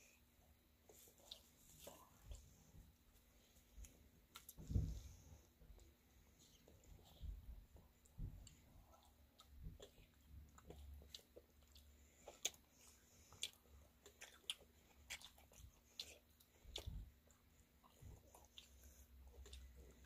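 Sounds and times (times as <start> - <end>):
chewing juicy fruit: 3.5 - 20.0.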